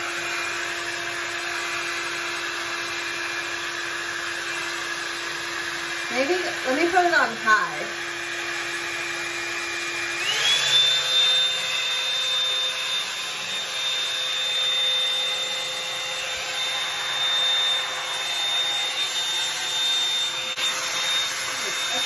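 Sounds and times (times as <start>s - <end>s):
hot-air brush whining: 0.0s - 22.0s.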